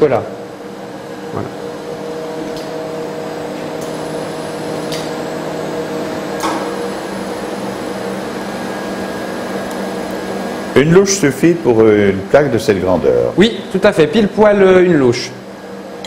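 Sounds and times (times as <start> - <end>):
electric machine hum: 0.0 - 16.0.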